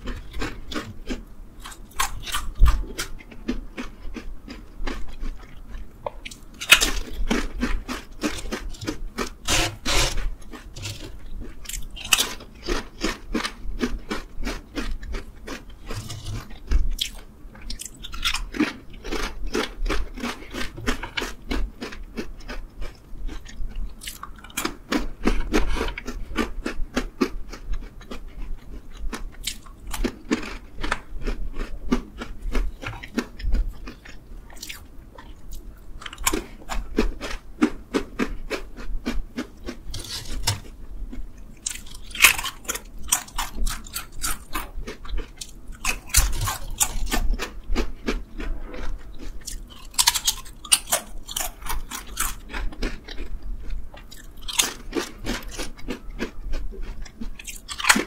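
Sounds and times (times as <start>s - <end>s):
crunching and chewing snacks: 0.0s - 58.0s.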